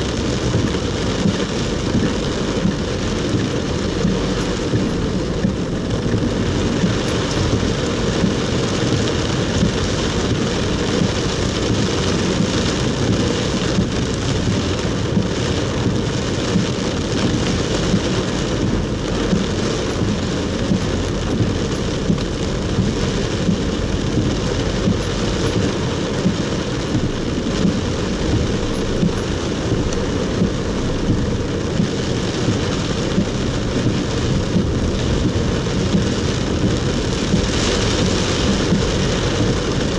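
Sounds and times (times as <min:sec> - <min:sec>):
heavy rain on car roof: 0:00.0 - 0:39.9
road and engine noise: 0:00.0 - 0:39.9.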